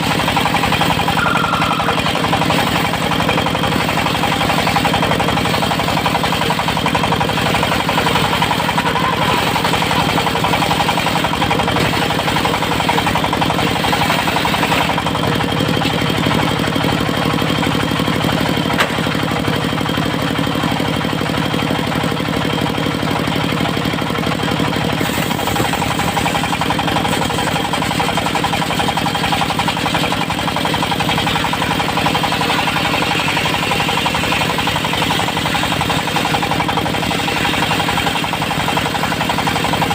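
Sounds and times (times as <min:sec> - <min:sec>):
sawmill engine chugging: 0:00.0 - 0:39.9.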